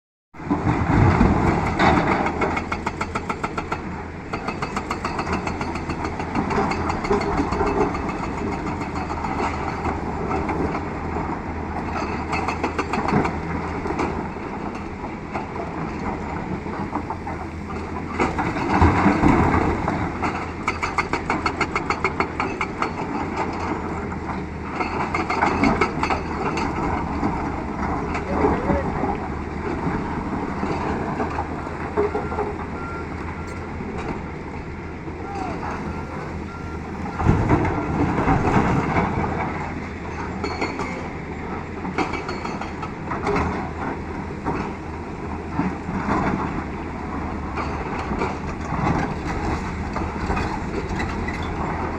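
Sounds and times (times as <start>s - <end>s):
excavator diesel engine pulsing: 0.4s - 51.9s.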